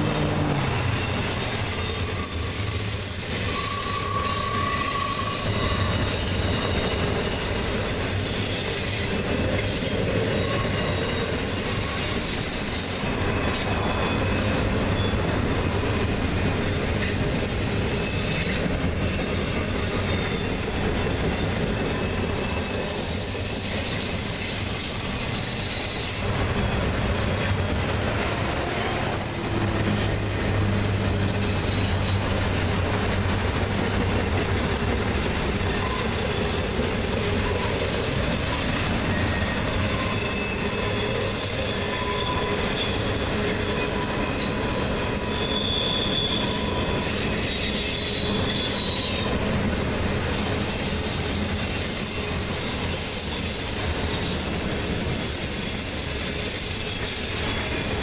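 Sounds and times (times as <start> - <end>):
high wheel squeal: 0.0 - 15.3, 15.9 - 33.0, 34.1 - 58.0
train wheels rumbling: 0.0 - 58.0.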